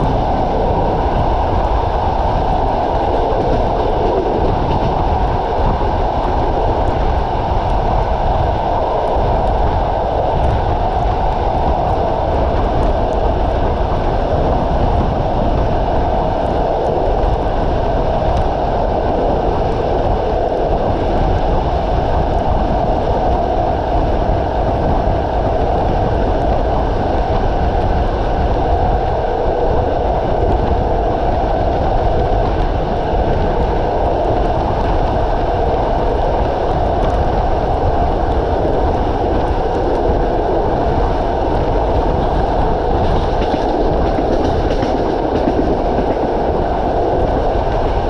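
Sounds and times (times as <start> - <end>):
heavy rain: 0.0 - 48.0
rushing air: 0.0 - 48.0
train wheels on rail: 0.0 - 48.0.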